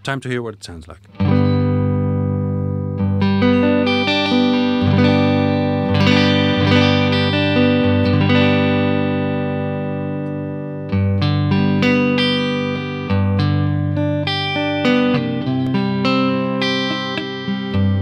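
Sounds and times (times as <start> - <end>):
electric guitar chords: 1.1 - 18.0.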